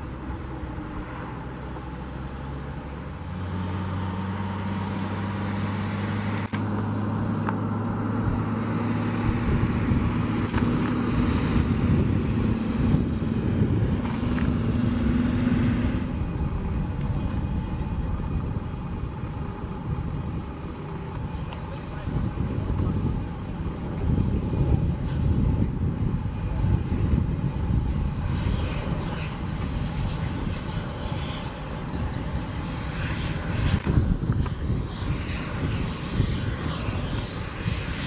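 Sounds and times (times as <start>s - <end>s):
jet engines rumbling: 0.0s - 38.0s.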